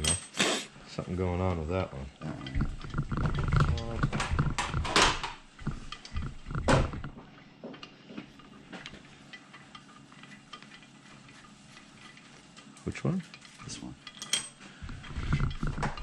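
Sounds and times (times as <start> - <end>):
metal tools clinking and knocking: 0.0 - 0.4, 1.7 - 7.2, 7.8 - 16.0.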